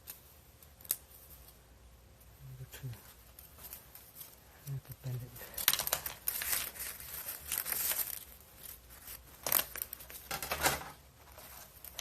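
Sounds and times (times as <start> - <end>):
sharp crackles of cable bending: 0.0 - 1.6, 2.9 - 12.0
crinkly handling noises: 0.0 - 12.0.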